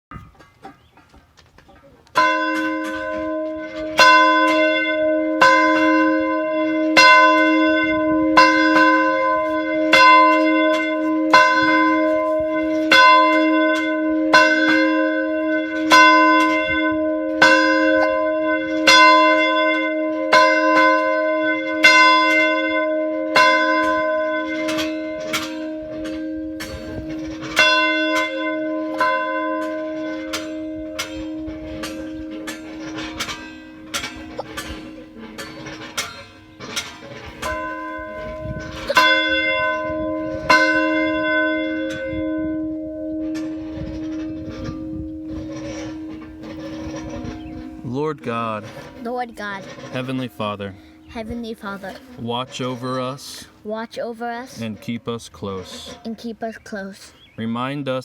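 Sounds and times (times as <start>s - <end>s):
church bell tolling: 2.1s - 53.4s.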